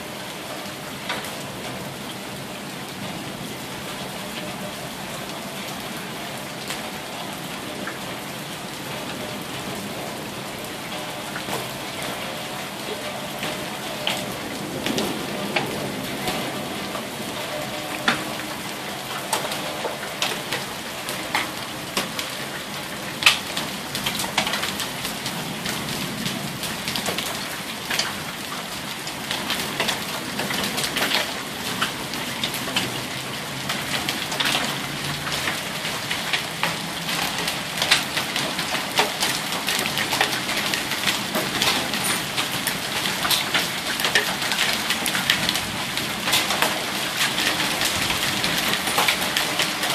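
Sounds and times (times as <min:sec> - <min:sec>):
heavy rain on pavement: 0:00.0 - 0:49.9.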